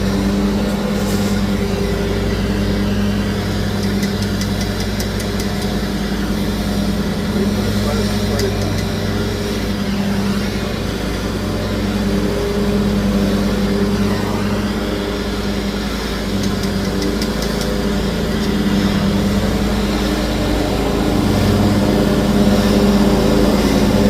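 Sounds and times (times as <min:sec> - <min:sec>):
gas torch hissing: 0:00.0 - 0:24.0.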